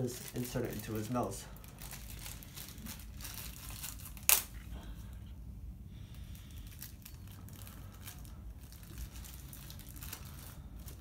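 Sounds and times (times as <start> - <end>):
plastic packaging crinkling: 0.0 - 4.7, 6.1 - 11.0.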